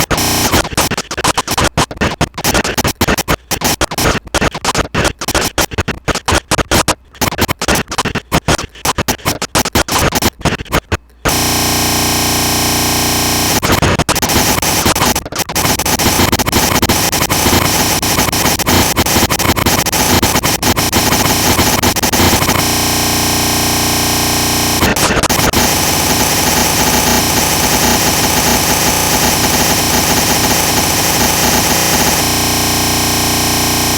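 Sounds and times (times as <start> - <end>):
buzzing crackling static: 0.0 - 33.9
stuttering digital glitch static: 0.0 - 33.9.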